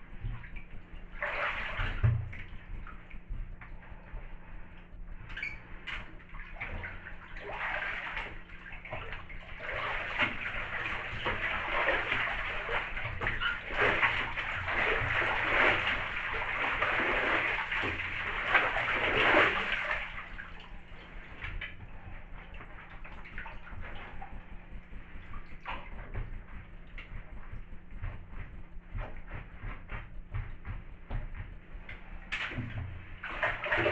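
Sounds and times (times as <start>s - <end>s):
boots sloshing in bathtub water: 0.0s - 33.9s.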